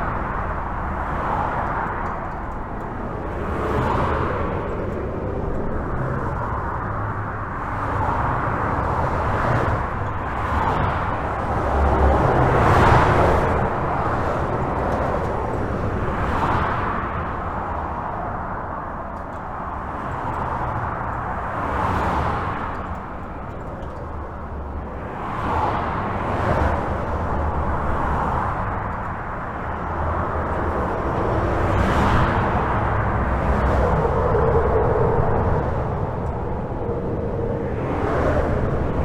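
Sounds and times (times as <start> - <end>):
highway traffic: 0.0 - 39.0.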